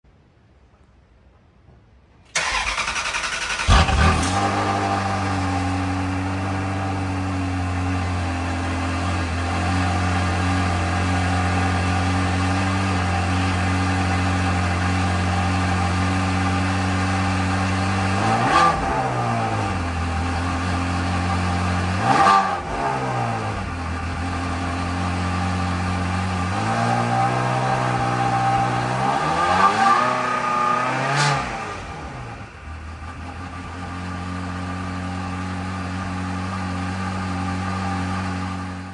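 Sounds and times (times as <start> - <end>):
car engine idling and revving: 2.4 - 38.9.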